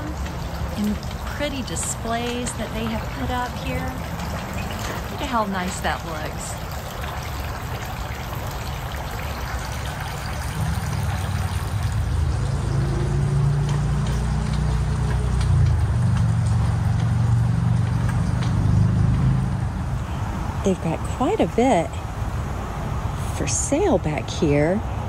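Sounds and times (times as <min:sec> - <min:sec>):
fountain water trickling: 0:00.0 - 0:25.0.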